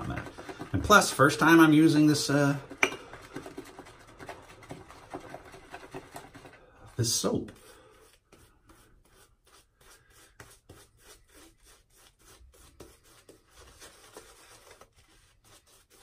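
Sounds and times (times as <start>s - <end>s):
shaving brush rubbing lathered face: 0.0s - 16.0s.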